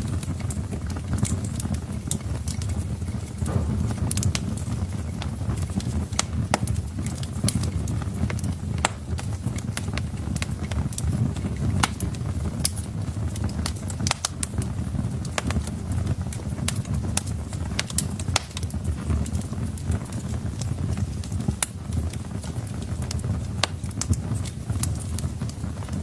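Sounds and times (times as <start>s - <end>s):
low rumble of burning logs: 0.0s - 26.0s
wood fire crackling: 0.0s - 26.0s.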